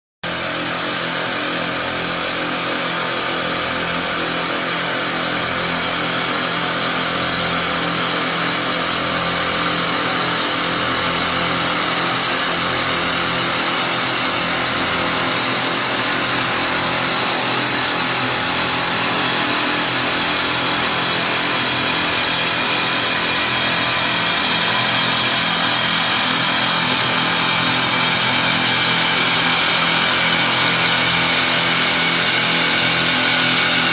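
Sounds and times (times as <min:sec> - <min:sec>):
cutting tools shaving wood: 0:00.2 - 0:33.9
machine hum: 0:00.2 - 0:33.9.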